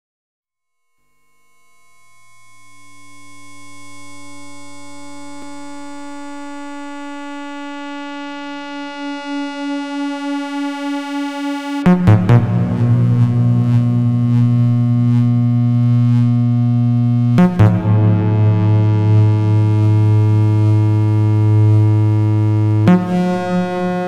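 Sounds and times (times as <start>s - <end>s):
synthesizer drone: 3.5s - 24.0s
low pulsing bass: 4.6s - 24.0s.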